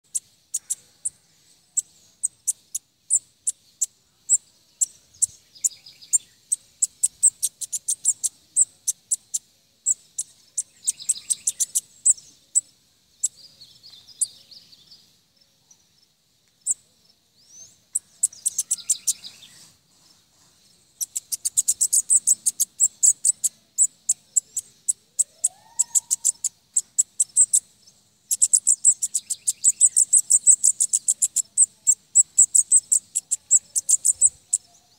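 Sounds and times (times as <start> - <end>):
bird singing high ticking notes: 0.0 - 15.2, 16.6 - 20.2, 20.9 - 34.9.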